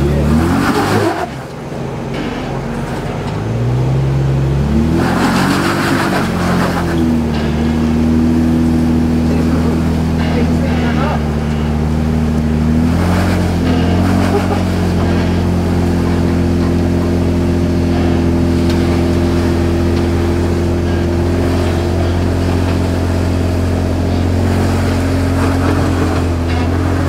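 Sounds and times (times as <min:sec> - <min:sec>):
car engine under load: 0:00.0 - 0:27.0.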